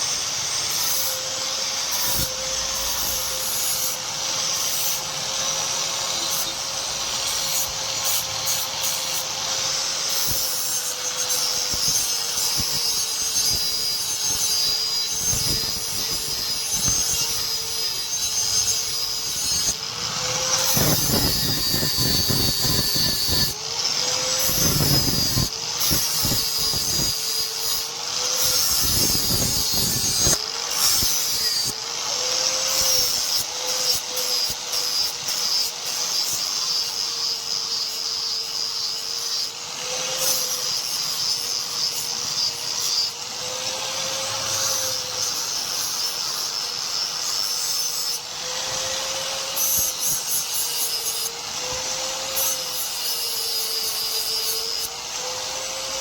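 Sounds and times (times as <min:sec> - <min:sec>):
power tool humming: 0:00.0 - 0:56.0
rough grinding noise: 0:00.0 - 0:56.0.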